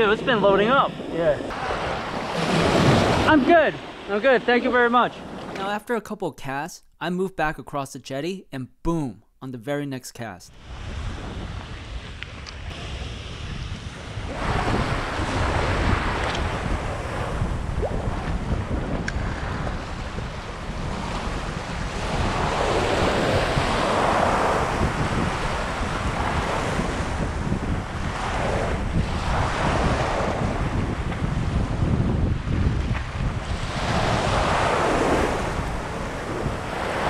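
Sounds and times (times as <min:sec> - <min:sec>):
wind rumble on microphone: 0:00.0 - 0:03.3, 0:10.6 - 0:37.0
small waves washing up a beach: 0:00.0 - 0:05.6, 0:10.6 - 0:37.0.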